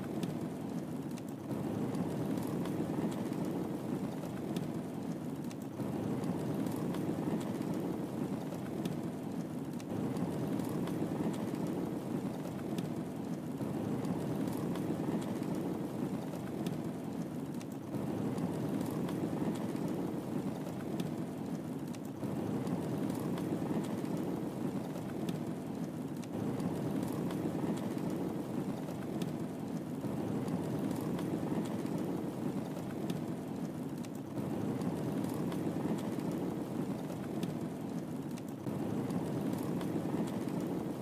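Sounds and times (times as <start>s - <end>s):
fire crackling: 0.0s - 41.0s
fire flames rushing: 0.0s - 41.0s.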